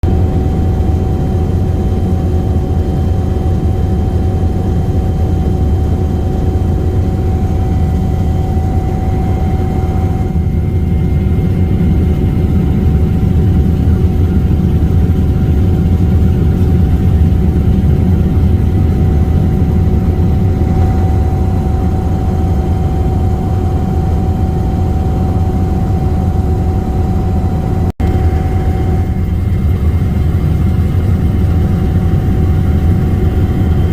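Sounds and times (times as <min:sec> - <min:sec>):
constant engine whine: 0:00.0 - 0:33.9
helicopter rotors rumbling: 0:00.0 - 0:33.9.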